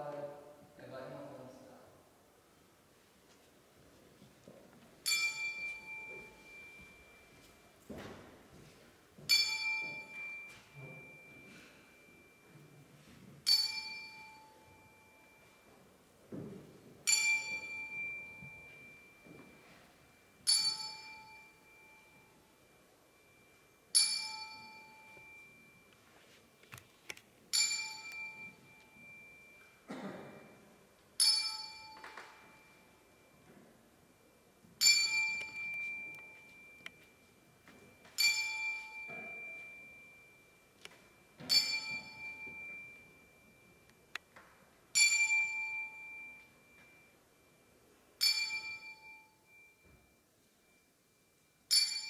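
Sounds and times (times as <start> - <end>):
bell-like metallic tone ringing: 5.0 - 7.8, 9.2 - 16.0, 17.0 - 26.0, 27.5 - 44.2, 44.9 - 52.0.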